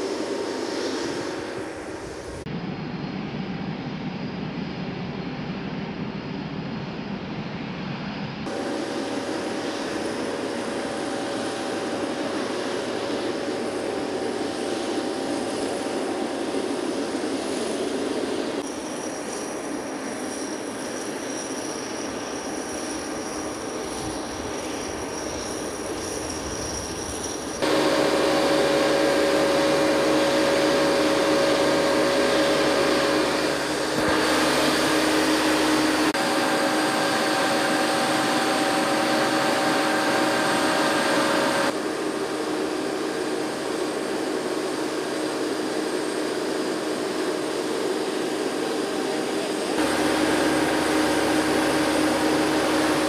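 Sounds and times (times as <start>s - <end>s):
jet aircraft noise: 0.0s - 53.0s.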